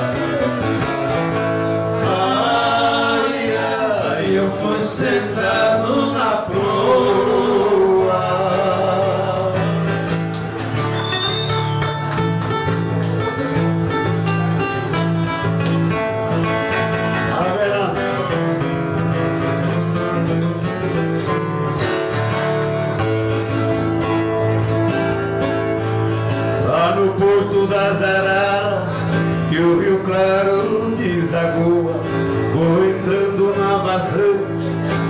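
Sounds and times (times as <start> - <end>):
plucked and strummed guitars: 0.0 - 35.0.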